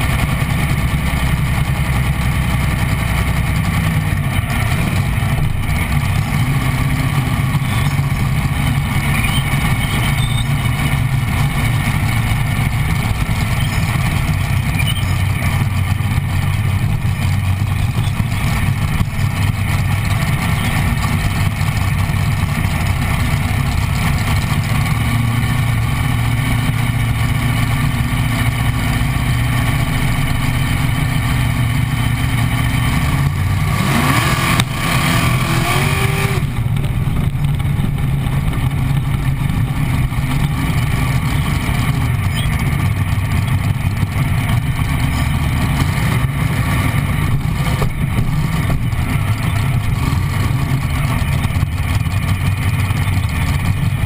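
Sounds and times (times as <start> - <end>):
dragster engine idling: 0.0 - 54.0.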